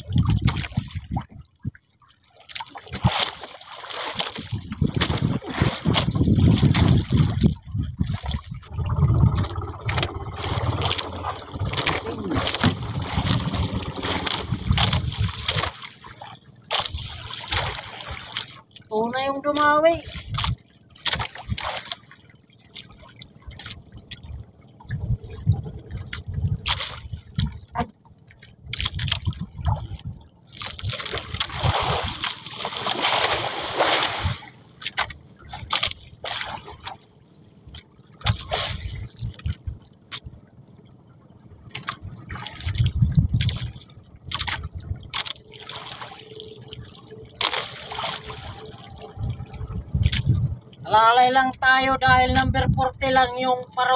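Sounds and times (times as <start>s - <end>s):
water sloshing and splashing: 0.0s - 53.9s.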